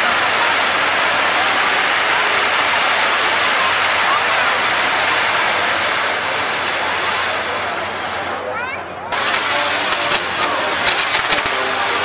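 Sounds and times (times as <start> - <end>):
fireworks sparking hiss: 0.0 - 12.0.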